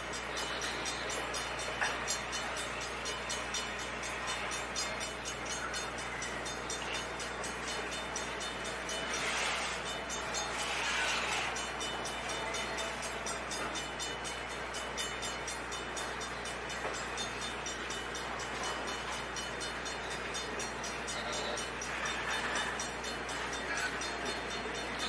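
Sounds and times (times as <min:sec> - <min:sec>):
freight train wheels on rail: 0:00.0 - 0:25.0.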